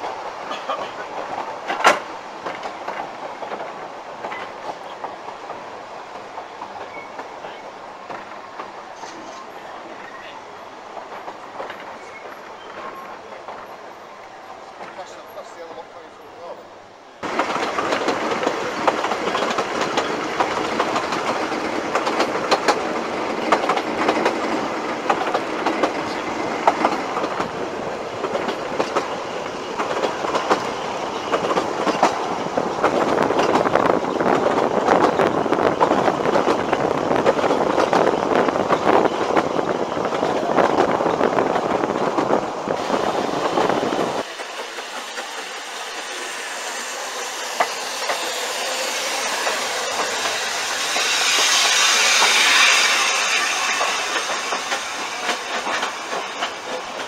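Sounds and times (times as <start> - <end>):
train wheels clattering over rail joints: 0.0 - 9.7, 10.9 - 13.9, 17.2 - 57.0.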